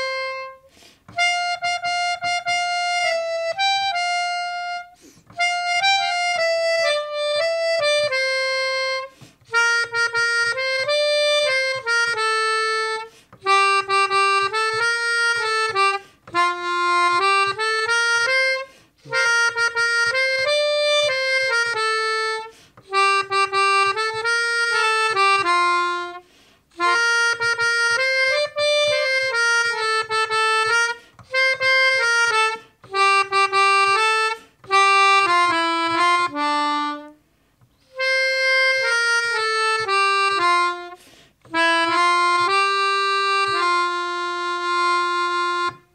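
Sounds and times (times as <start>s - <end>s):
keyboard organ melody: 0.0s - 45.9s.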